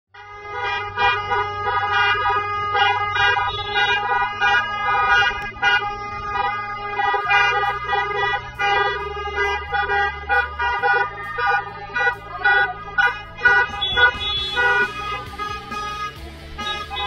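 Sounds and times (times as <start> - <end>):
bass line: 0.2 - 17.0.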